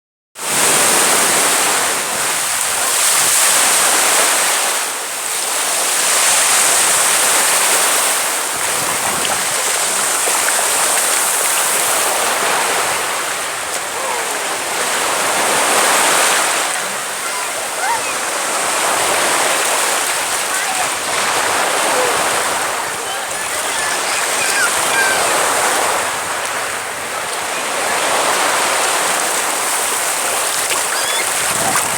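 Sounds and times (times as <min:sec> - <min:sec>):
sea surf washing: 0:00.4 - 0:31.9.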